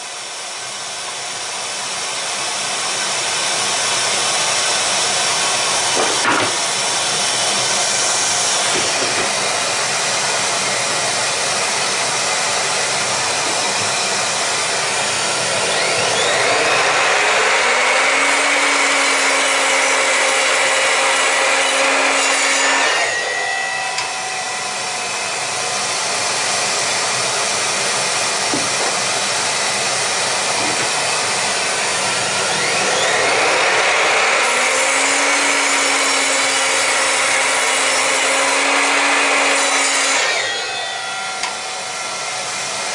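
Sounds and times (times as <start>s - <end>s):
mitre saw motor whining: 0.0s - 42.9s
saw cutting wood: 0.0s - 42.9s
dust extractor hissing: 3.1s - 22.2s, 23.3s - 42.9s.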